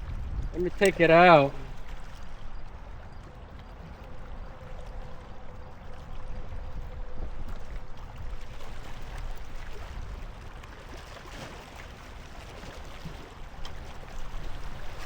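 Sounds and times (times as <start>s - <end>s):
outdoor water noise: 0.0s - 15.0s.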